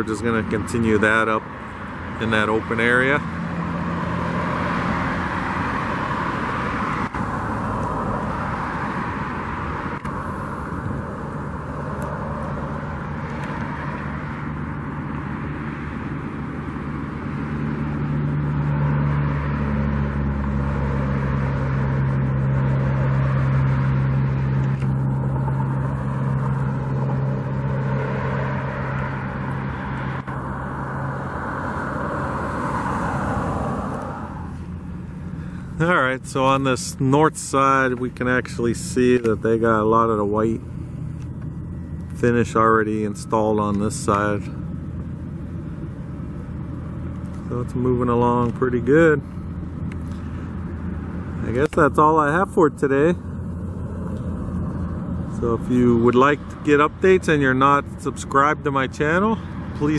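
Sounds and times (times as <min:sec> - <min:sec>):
road noise: 0:00.0 - 0:59.9
vehicle engine hum: 0:00.0 - 0:59.9.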